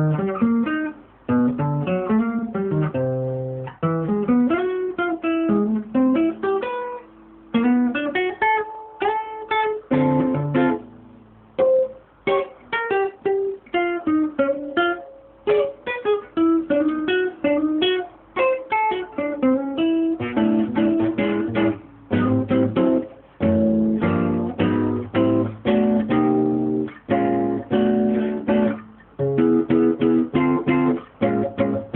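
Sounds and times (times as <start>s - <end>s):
plucked string instrument music: 0.0s - 31.9s.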